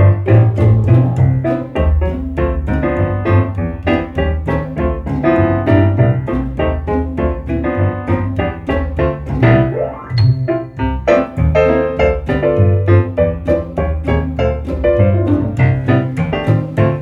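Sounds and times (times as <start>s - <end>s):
bass line: 0.0s - 17.0s
piano playing quick notes: 0.0s - 17.0s.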